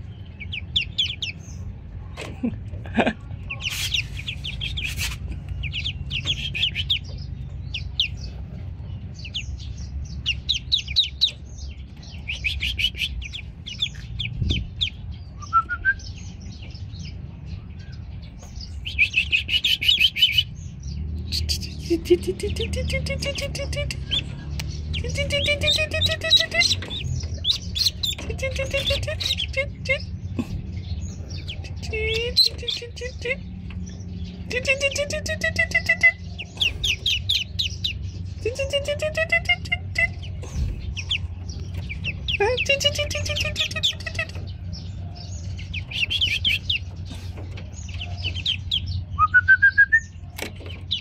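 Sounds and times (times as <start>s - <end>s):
ducklings peeping: 0.0s - 51.0s.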